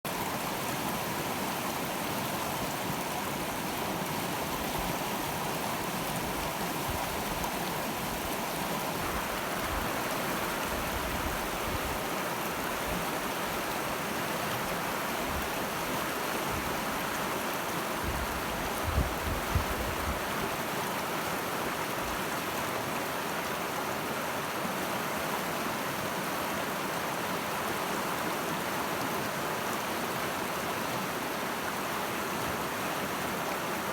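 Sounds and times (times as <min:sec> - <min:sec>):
river rushing: 0:00.1 - 0:33.9.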